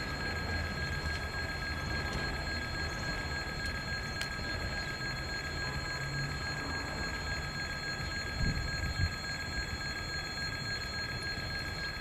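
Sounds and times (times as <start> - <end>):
faint high ringing tones: 0.0 - 12.0.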